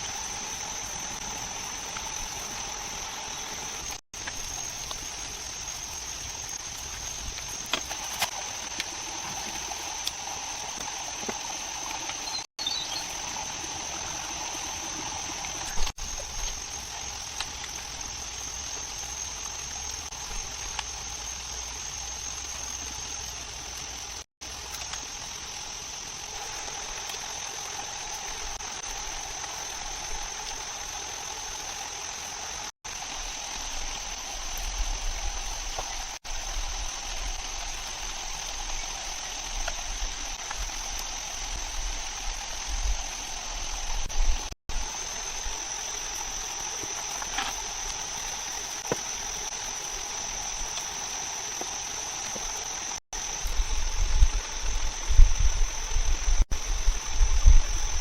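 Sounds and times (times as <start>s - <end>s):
high-pitched insect buzz: 0.0s - 58.0s.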